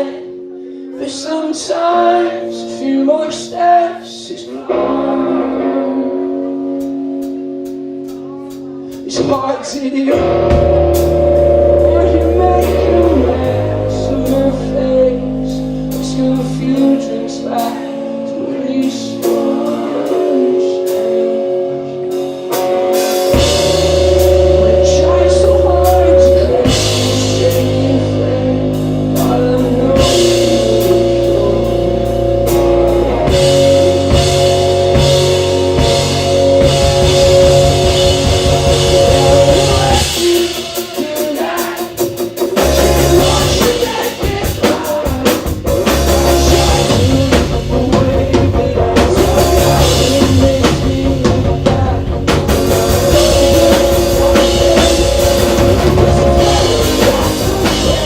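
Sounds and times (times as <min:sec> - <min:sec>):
bass guitar: 0:00.0 - 0:58.0
distorted electric guitars: 0:00.0 - 0:58.0
drum kit: 0:06.7 - 0:18.0, 0:18.8 - 0:58.0.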